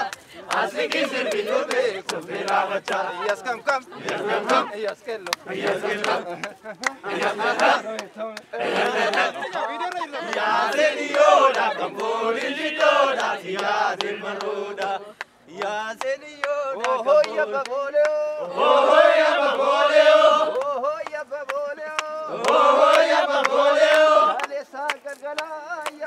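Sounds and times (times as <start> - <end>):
group of voices chanting: 0.0 - 17.7, 18.4 - 20.9, 22.2 - 24.5.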